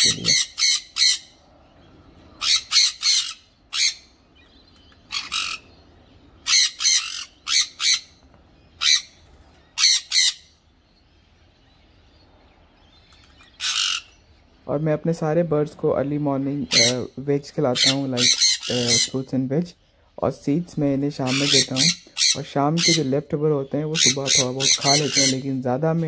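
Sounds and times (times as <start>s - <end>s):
parrots squawking: 0.0s - 14.6s, 16.0s - 19.4s, 21.1s - 25.6s.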